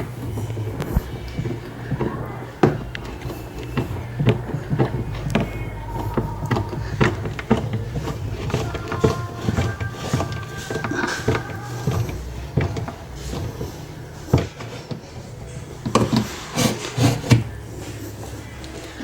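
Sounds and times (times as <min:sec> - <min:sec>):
tools knocking and clicking: 0:00.0 - 0:17.5
steady low hum: 0:00.0 - 0:19.0.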